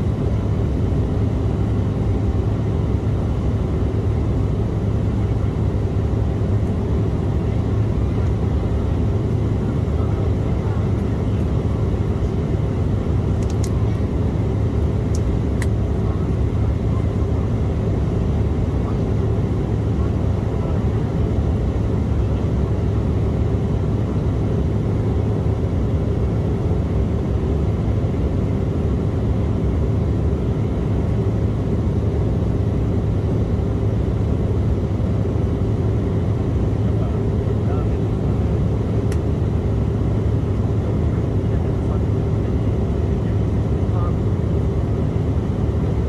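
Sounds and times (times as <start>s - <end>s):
airliner cabin engine drone: 0.0s - 46.0s.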